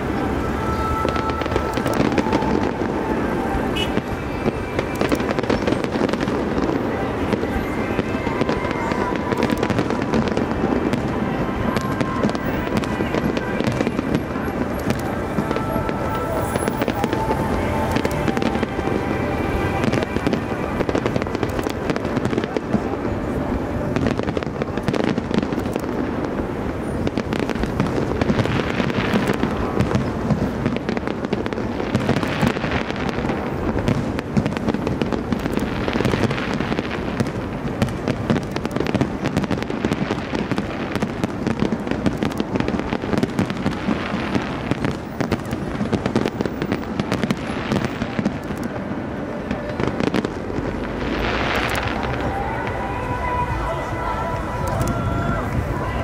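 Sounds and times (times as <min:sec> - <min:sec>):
firework crackling: 0:00.0 - 0:56.0.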